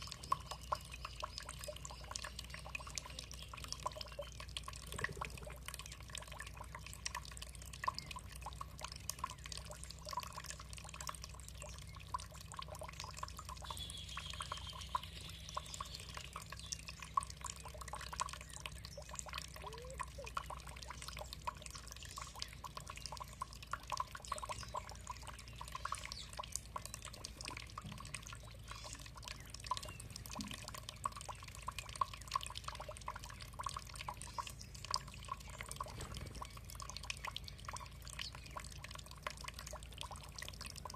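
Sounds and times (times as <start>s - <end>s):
water dripping and trickling: 0.0s - 40.9s.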